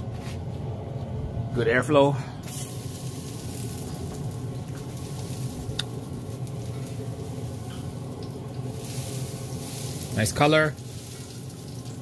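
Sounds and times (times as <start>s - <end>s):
grill fan humming: 0.0s - 12.0s.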